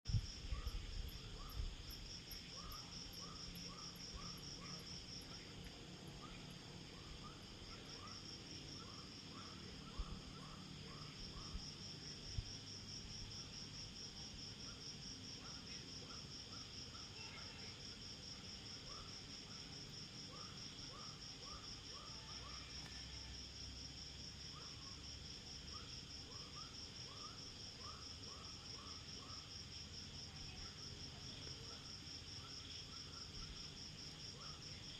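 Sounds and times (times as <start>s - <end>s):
lower insect chirp: 0.1s - 34.9s.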